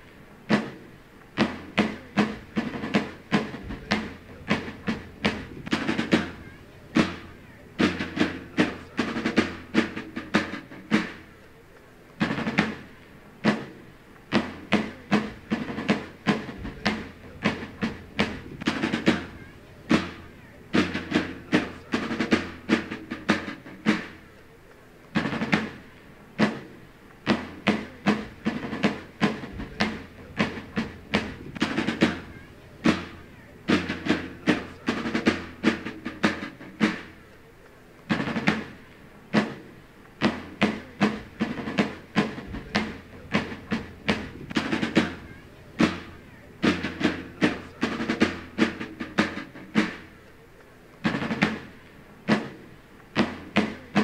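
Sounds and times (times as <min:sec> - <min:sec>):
side drum marching cadence: 0:00.0 - 0:54.0.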